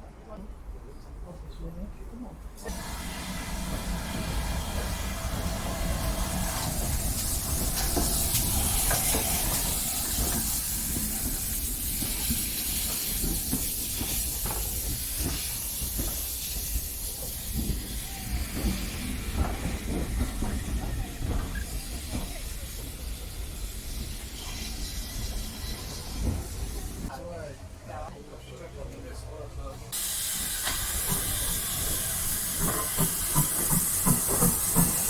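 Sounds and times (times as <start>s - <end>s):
steam locomotive hissing: 2.6s - 27.1s, 29.9s - 35.0s.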